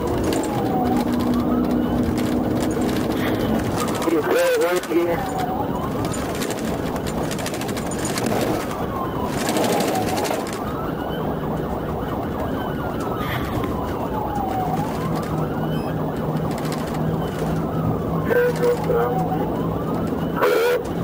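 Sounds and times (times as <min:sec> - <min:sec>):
police siren wailing: 0:00.0 - 0:21.0
road and engine noise: 0:00.0 - 0:21.0.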